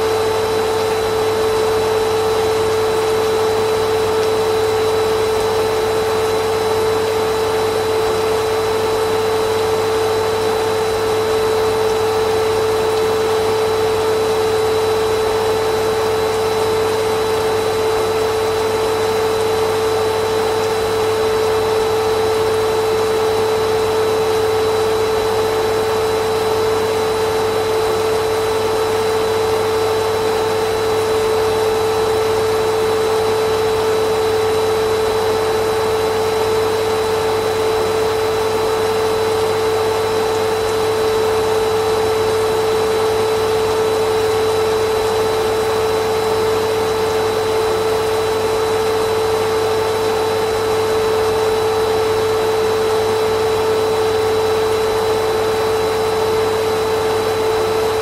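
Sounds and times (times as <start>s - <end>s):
vacuum cleaner motor running: 0.0s - 58.0s.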